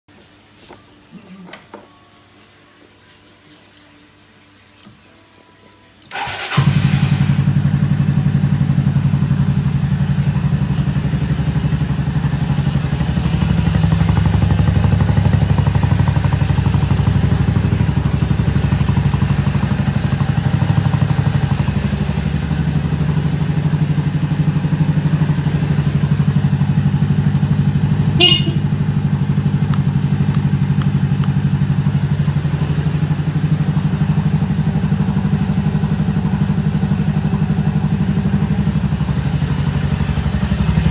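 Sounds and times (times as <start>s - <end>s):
scooter engine starting and idling: 6.1s - 40.9s.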